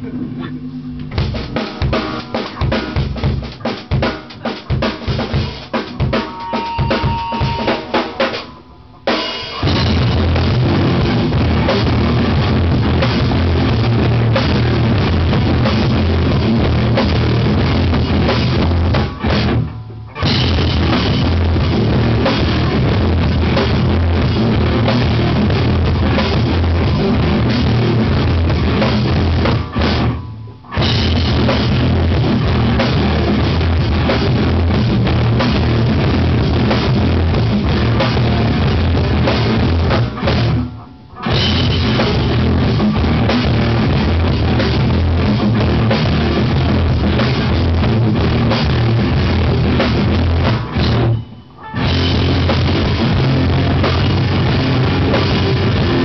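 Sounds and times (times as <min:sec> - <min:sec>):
electric guitars: 0:00.0 - 0:56.0
rock band playing: 0:00.0 - 0:56.0
bass drum: 0:01.0 - 0:08.5, 0:09.5 - 0:51.2, 0:51.8 - 0:56.0
cymbals: 0:01.4 - 0:47.6.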